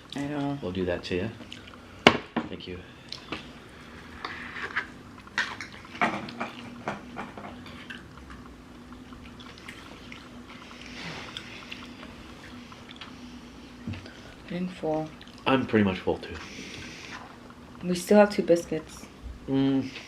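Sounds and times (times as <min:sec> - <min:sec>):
faint steady low hum: 0:00.0 - 0:20.0.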